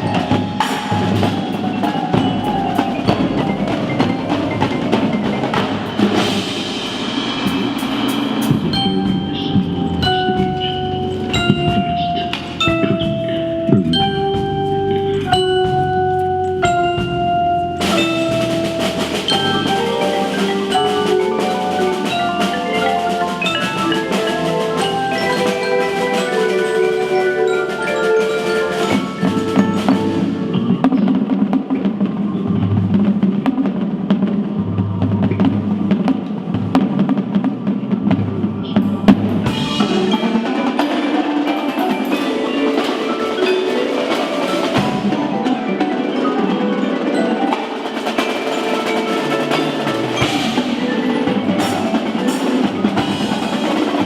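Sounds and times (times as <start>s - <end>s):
drum strikes: 0.0s - 54.0s
mallet keyboards: 0.0s - 54.0s.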